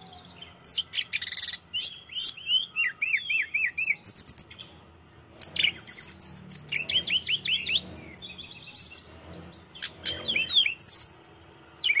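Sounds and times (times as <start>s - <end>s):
bird singing chirps and trills: 0.0s - 12.0s.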